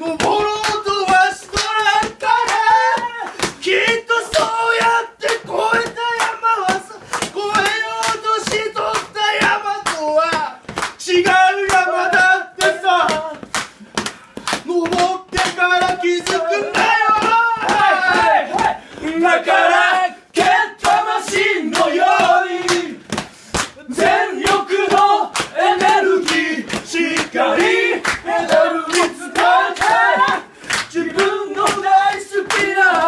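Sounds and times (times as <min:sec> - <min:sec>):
men singing together: 0:00.0 - 0:13.5, 0:14.7 - 0:23.1, 0:23.8 - 0:33.0
hand claps: 0:00.0 - 0:33.0.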